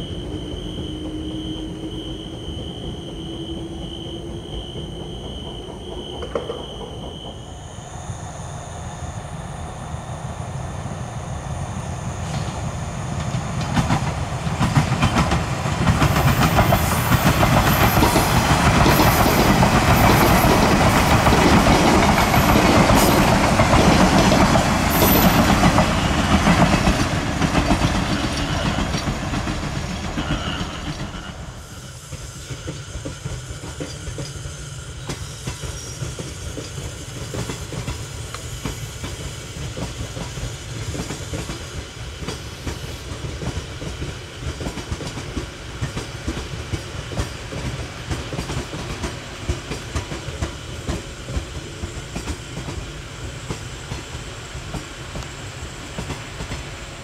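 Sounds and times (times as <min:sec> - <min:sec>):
low train rumble: 0:00.0 - 0:57.0
train wheels clicking over rail joints: 0:03.0 - 0:07.5, 0:12.2 - 0:57.0.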